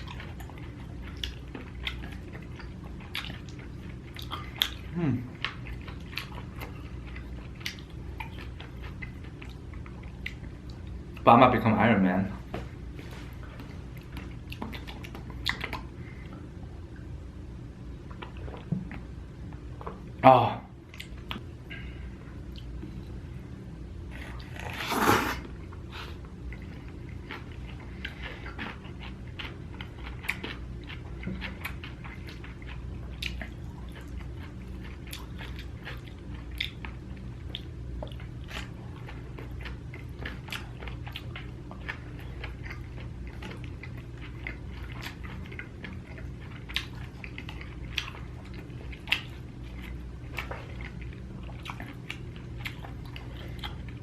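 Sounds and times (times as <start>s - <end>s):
chewing and biting food: 0.0s - 11.3s, 12.4s - 16.4s, 24.0s - 54.0s
steady low hum: 0.0s - 54.0s.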